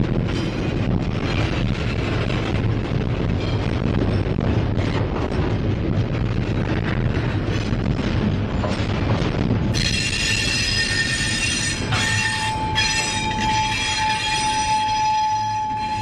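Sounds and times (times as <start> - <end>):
train knocks and clanks: 0.0 - 16.0
train wheels rumbling on rails: 0.0 - 16.0.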